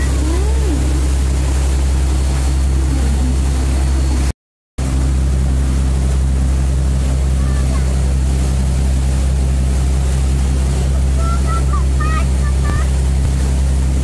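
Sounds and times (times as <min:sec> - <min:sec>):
ferry engine droning: 0:00.0 - 0:14.0
water churning in propeller wake: 0:00.0 - 0:14.0.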